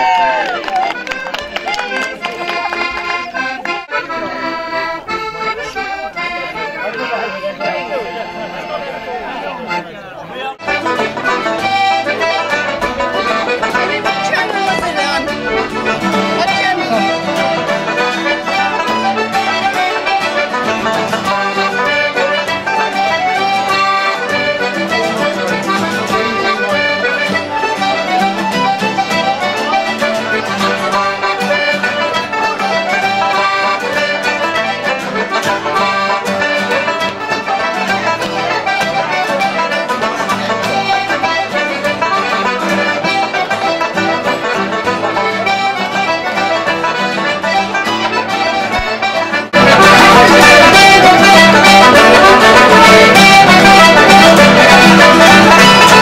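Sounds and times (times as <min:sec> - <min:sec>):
banjo strumming and plucking: 0:00.0 - 0:56.0
button accordion melody: 0:00.0 - 0:56.0.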